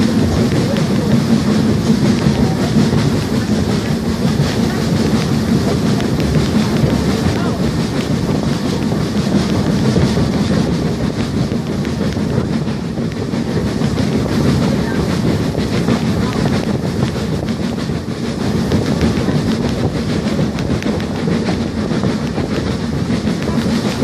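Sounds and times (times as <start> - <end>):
train rumbling along track: 0.0 - 24.0
wheels clicking over rails: 0.0 - 24.0.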